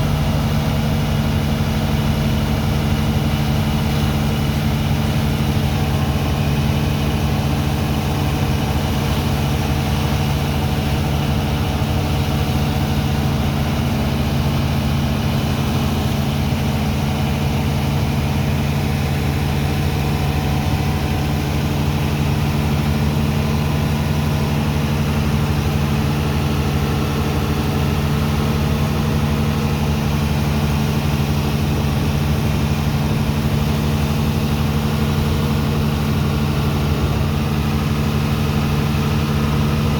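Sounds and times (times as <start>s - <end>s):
pump engine droning: 0.0s - 39.9s.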